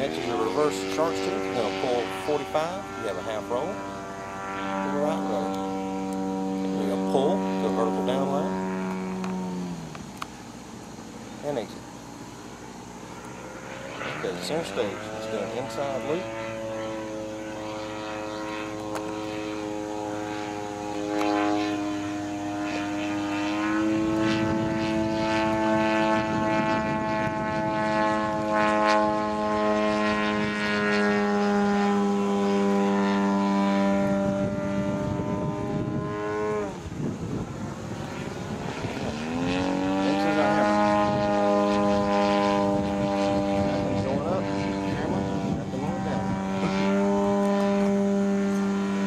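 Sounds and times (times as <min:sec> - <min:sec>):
model airplane motor buzzing: 0:00.0 - 0:49.0.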